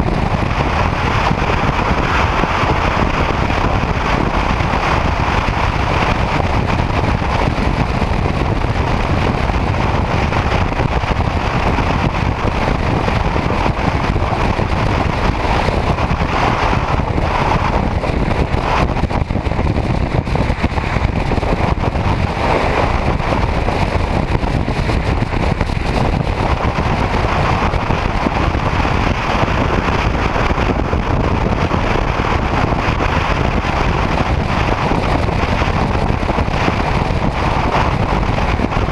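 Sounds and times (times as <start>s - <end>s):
motorcycle road and engine noise: 0.0s - 38.9s
wind rushing over microphone: 0.0s - 38.9s.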